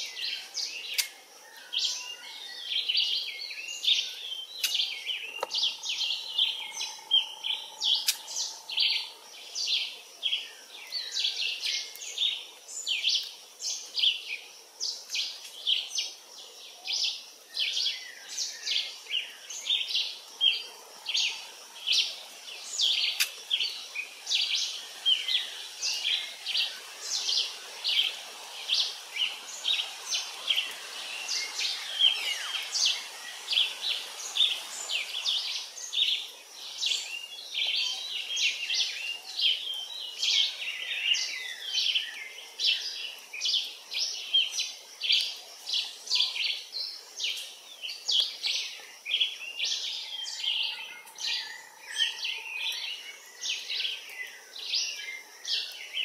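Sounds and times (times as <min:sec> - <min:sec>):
dense chorus of birds chirping: 0:00.0 - 0:56.0.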